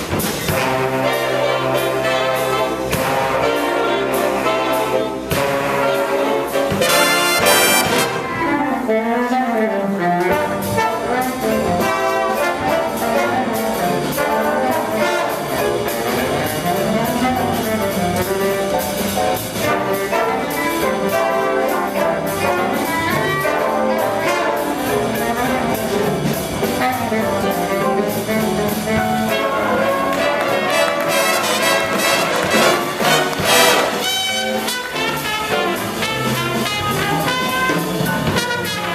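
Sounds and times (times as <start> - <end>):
jazz big band playing swing: 0.0 - 38.9.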